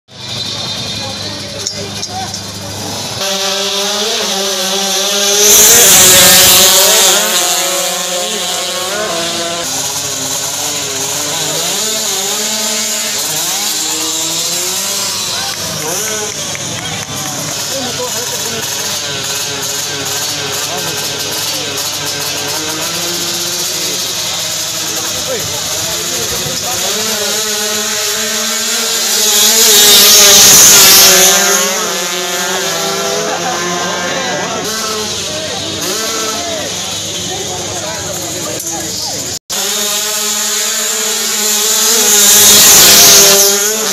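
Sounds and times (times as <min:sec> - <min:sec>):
motorcycle engine revving: 0:00.1 - 0:43.9.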